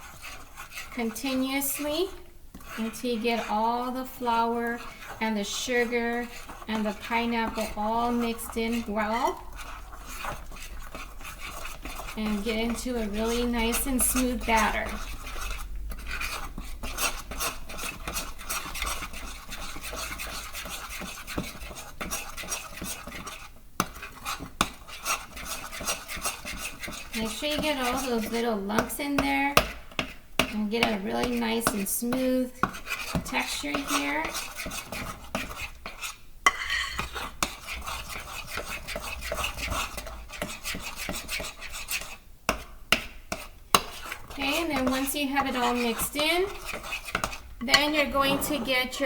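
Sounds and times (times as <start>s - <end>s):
utensil scraping and clinking bowl: 0.0s - 49.0s
utensil stirring batter in bowl: 0.0s - 49.0s.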